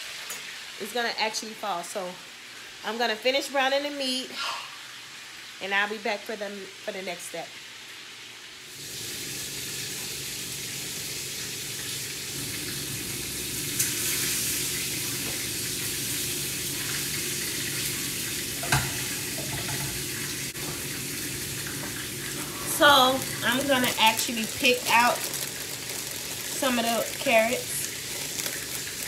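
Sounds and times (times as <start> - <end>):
meat sizzling in oil: 2.2 - 29.0.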